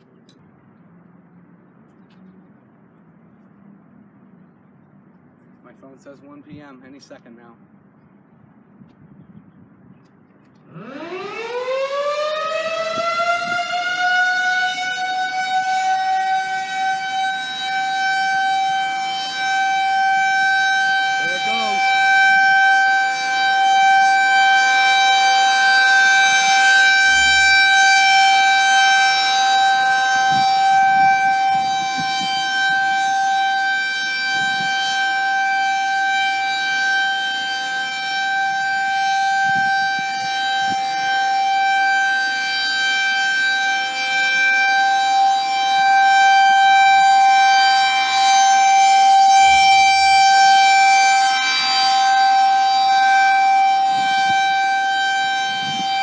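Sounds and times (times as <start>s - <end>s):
tornado siren wailing: 10.6s - 56.0s.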